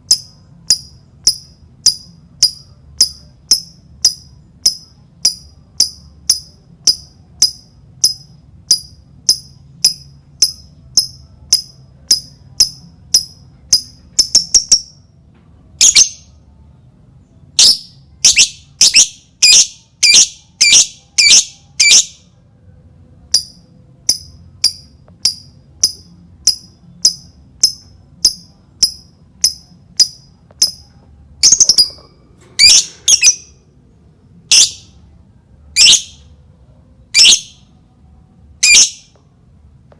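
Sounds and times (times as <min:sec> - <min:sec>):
lovebird chirping: 0:00.0 - 0:15.0, 0:15.8 - 0:16.3, 0:17.6 - 0:22.2, 0:23.3 - 0:33.6, 0:34.5 - 0:35.0, 0:35.8 - 0:36.3, 0:37.1 - 0:37.7, 0:38.6 - 0:39.2.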